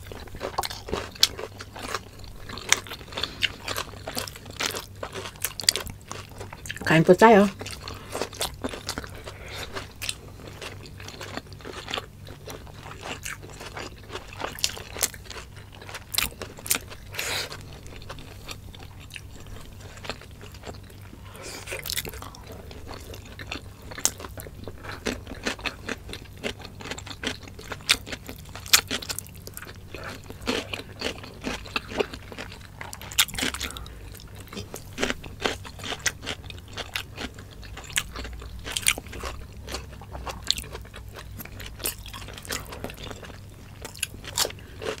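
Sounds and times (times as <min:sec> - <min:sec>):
people chewing and crunching: 0:00.0 - 0:45.0.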